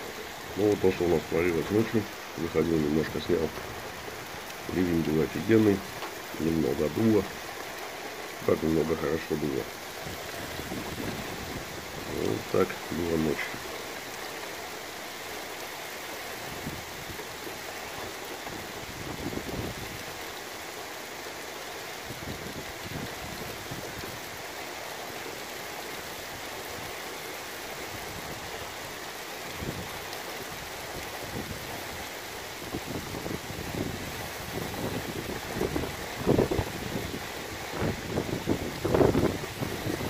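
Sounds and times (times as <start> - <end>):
heavy rain falling: 0.0 - 40.0
wind gusts: 0.0 - 40.0.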